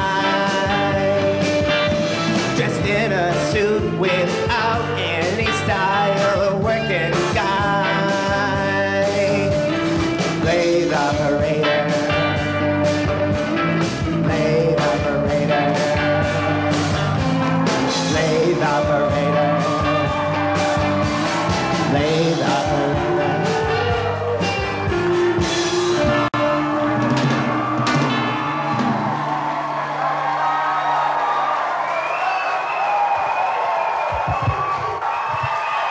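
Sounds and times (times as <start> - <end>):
live rock band playing: 0.0 - 31.3.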